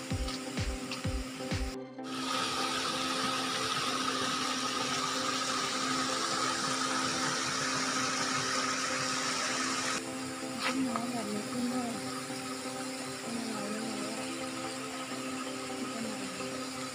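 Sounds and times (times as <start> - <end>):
stream water over rocks: 0.2 - 16.9.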